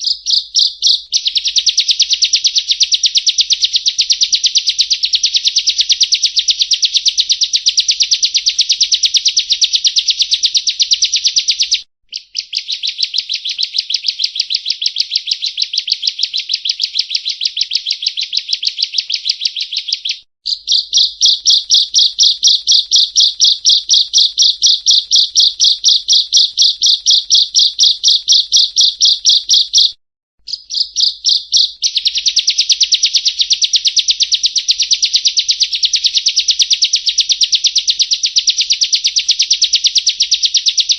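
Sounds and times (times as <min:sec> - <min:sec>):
bird singing rapid trills: 0:00.0 - 0:40.9.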